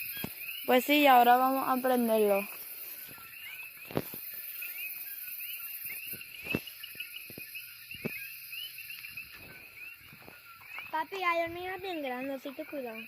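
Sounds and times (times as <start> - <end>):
frogs chirping: 0.0 - 13.0
insect hiss: 0.0 - 13.0.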